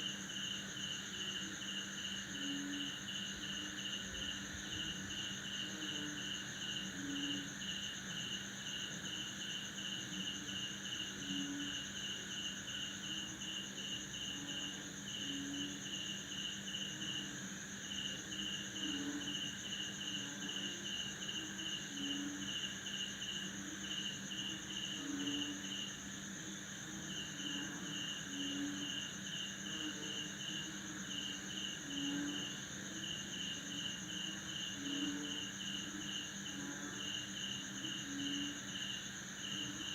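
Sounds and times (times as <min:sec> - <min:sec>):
cricket chirps: 0:00.0 - 0:39.9
frogs croaking: 0:00.0 - 0:39.9
insect trill: 0:00.0 - 0:39.9.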